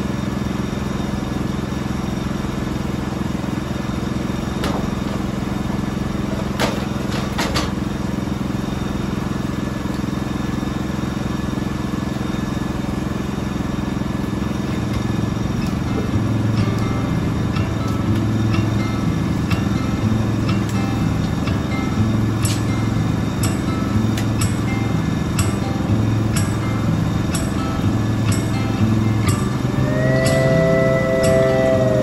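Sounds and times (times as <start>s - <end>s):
sawmill engine running: 0.0s - 32.0s.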